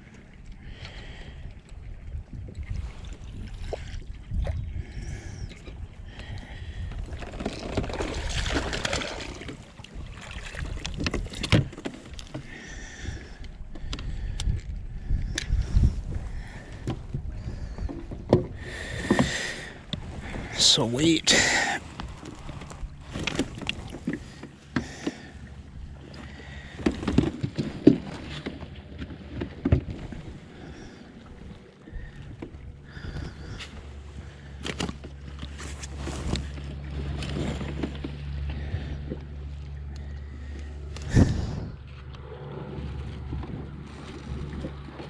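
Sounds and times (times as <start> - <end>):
wind rumble on microphone: 0.0 - 20.7, 21.8 - 45.0
water and handling noise: 0.1 - 45.0.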